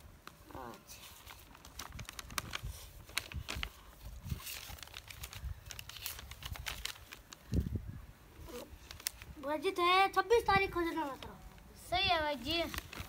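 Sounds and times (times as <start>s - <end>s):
paper rustling and crinkling: 0.1s - 7.8s, 8.4s - 9.7s, 10.8s - 13.0s.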